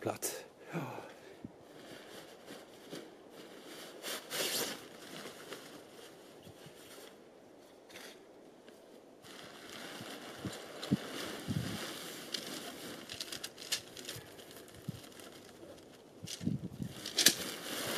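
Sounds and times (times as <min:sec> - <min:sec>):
tent fabric rustling: 0:01.6 - 0:17.9.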